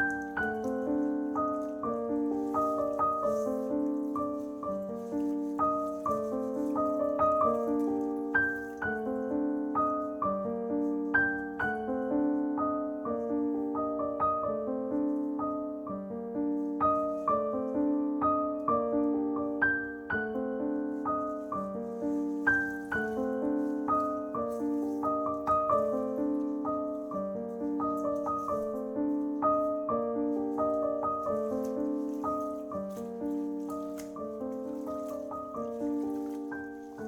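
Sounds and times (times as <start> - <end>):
gentle piano music: 0.0 - 37.0.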